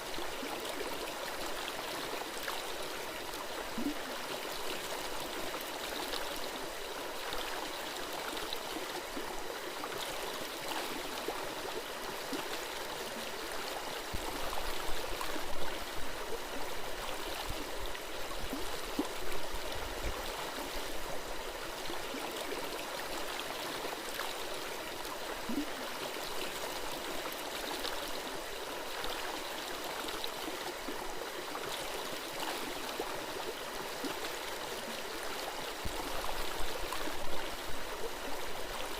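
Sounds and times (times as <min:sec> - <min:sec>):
stream gurgling: 0:00.0 - 0:38.9.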